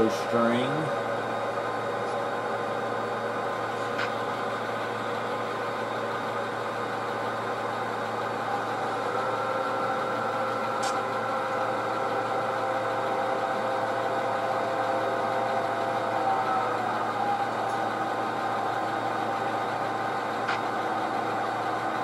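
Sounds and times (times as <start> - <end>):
model locomotive engine sound: 0.0 - 22.0.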